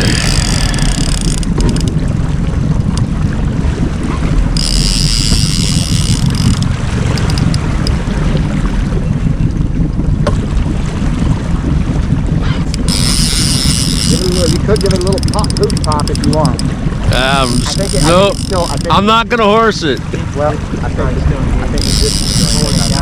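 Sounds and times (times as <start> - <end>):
boat motor running: 0.0 - 23.0
wind buffeting microphone: 0.0 - 23.0.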